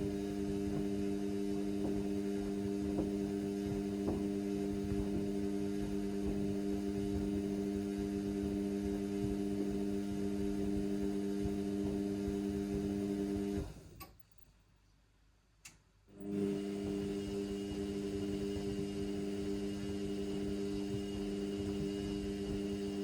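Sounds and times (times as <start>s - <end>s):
washing machine humming: 0.0s - 14.2s, 16.1s - 23.0s.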